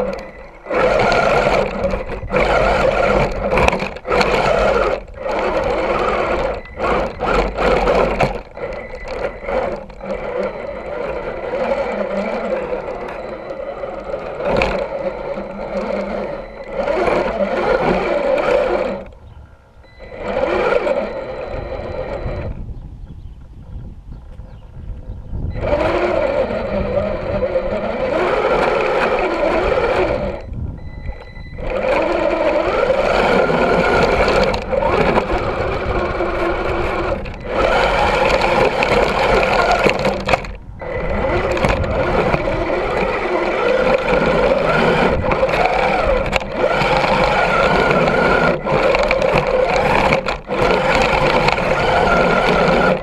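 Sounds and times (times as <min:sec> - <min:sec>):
toy truck electric motor whining: 0:00.0 - 0:22.7, 0:25.2 - 0:53.0.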